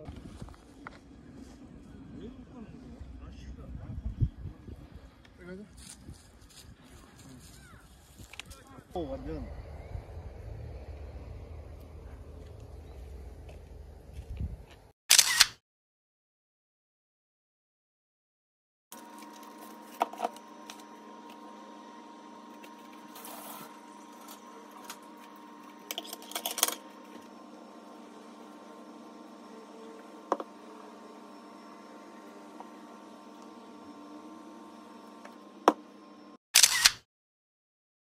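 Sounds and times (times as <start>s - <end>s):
steady low hum: 0.0s - 14.9s, 19.0s - 36.4s.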